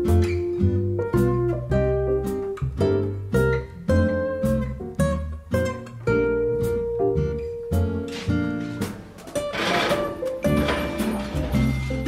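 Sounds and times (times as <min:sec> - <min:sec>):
plucked acoustic guitar tune: 0:00.0 - 0:12.0.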